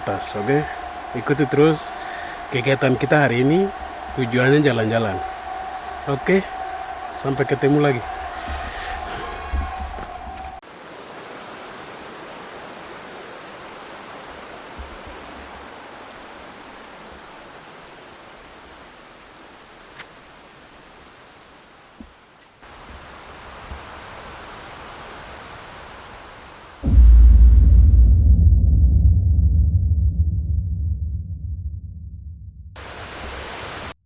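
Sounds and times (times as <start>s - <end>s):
creek water rushing: 0.0s - 26.8s, 32.8s - 34.0s.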